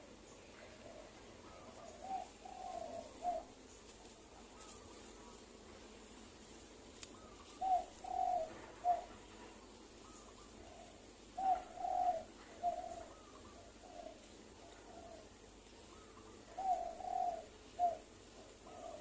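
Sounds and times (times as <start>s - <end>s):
dove cooing low: 0.0s - 6.0s, 7.1s - 19.0s
fainter higher dove coos: 0.6s - 3.6s, 4.5s - 5.3s, 7.1s - 19.0s.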